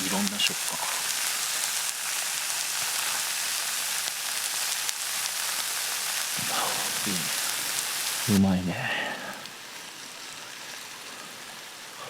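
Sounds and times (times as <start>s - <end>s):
batter sizzling on a griddle: 0.0s - 12.0s
faint crackles: 0.0s - 12.0s.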